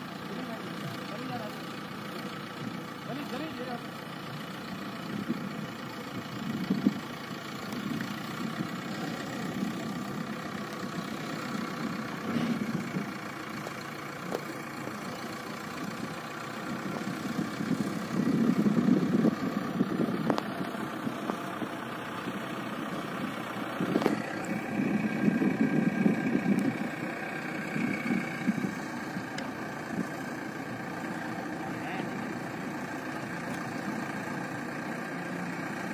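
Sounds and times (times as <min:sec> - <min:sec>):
diesel engine revving: 0:00.0 - 0:35.9.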